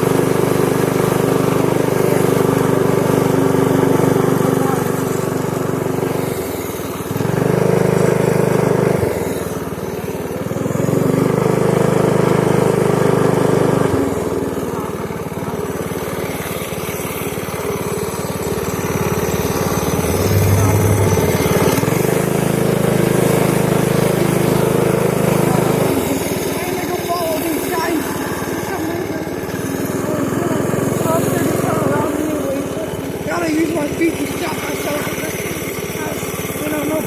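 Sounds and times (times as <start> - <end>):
small motorcycle engine running: 0.0 - 37.0.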